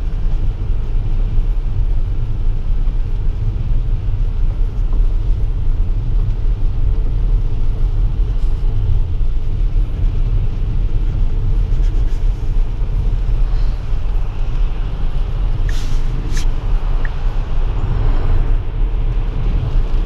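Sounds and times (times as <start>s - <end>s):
road and tyre noise in car: 0.0s - 20.0s.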